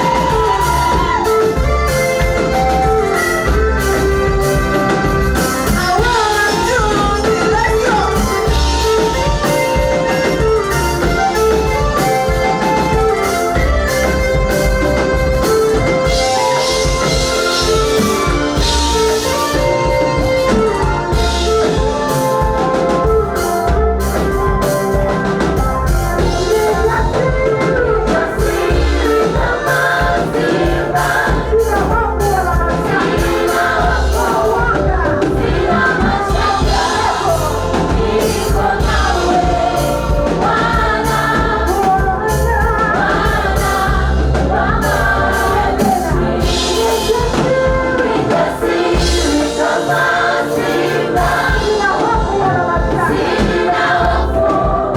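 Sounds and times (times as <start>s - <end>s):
band accompaniment: 0.0s - 54.9s
gospel choir singing: 0.0s - 54.9s
steady drum beat: 0.0s - 54.9s.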